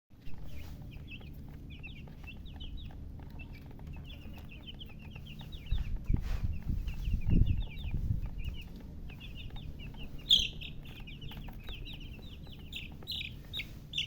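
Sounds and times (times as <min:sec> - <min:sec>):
baby chicks peeping: 0:00.1 - 0:14.0
low rumbling thumps: 0:00.2 - 0:14.0.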